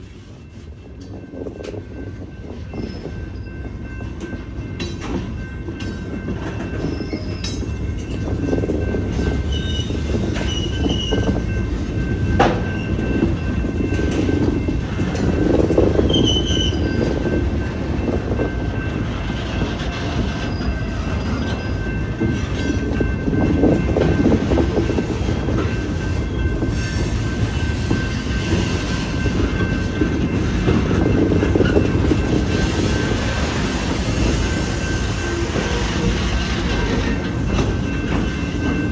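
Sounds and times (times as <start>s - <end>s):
freight train wheels rumbling on rail: 0.0s - 38.9s.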